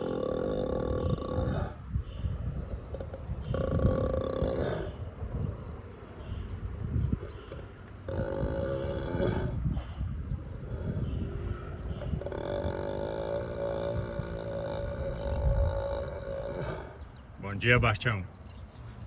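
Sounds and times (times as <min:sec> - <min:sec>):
ox snoring: 0:00.0 - 0:05.2, 0:07.0 - 0:17.2.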